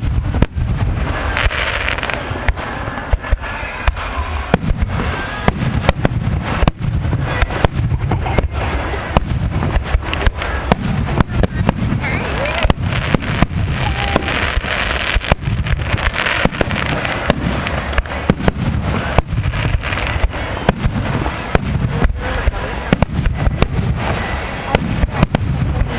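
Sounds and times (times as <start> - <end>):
fireworks bursting: 0.0 - 25.9
low rumble: 0.0 - 25.9.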